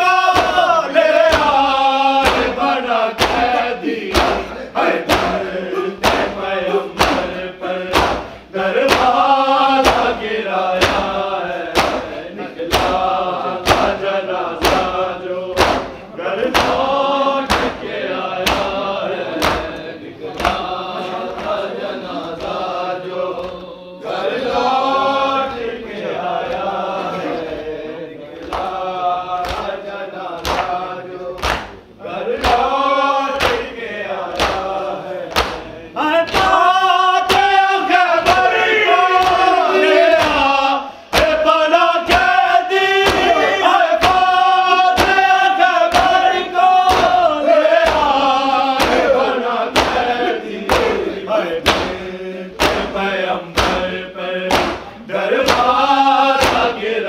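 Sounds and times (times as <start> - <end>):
sharp rhythmic beats: 0.0 - 57.0
voices chanting a lament: 0.0 - 57.0.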